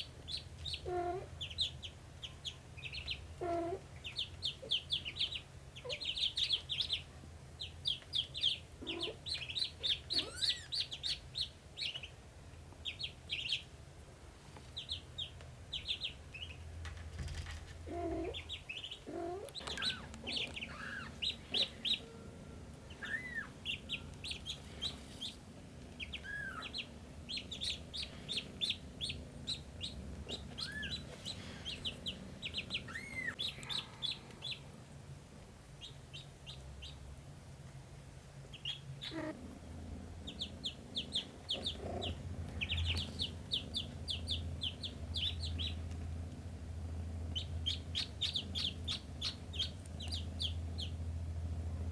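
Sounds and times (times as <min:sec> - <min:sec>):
ducklings peeping: 0:00.0 - 0:35.0, 0:35.6 - 0:37.4, 0:38.4 - 0:51.9.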